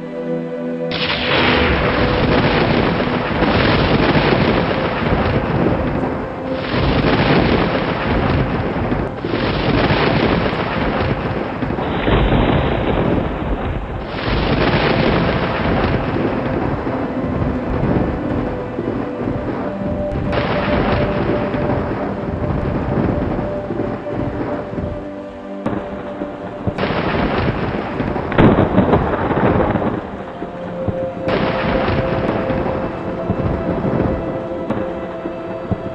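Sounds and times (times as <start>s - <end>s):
rain: 0.0s - 35.9s
thunder rumbling: 0.9s - 35.9s.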